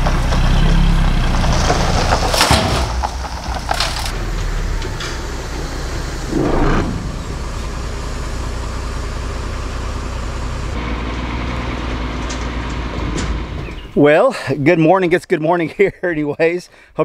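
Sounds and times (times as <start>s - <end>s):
diesel truck engine running: 0.0s - 13.9s.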